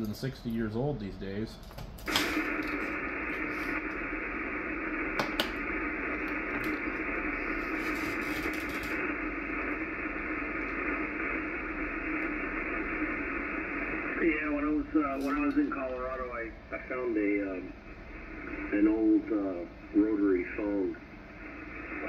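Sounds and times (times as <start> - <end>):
radio band noise hiss: 0.0 - 22.0.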